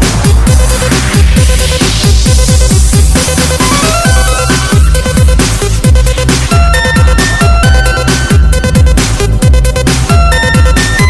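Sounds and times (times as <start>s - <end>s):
breakbeat dance music: 0.0s - 11.0s
deep kick drums: 0.0s - 11.0s
synth line climbing: 0.0s - 11.0s.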